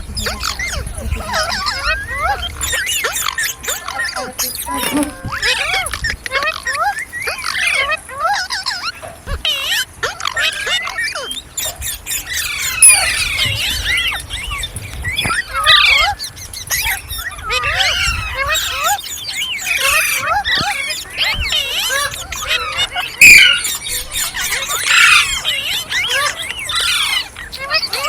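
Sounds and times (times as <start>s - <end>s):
parrot chattering and squealing: 0.0s - 14.7s, 15.3s - 28.0s
parrot sharp squawks: 0.2s - 14.2s, 17.6s - 28.0s.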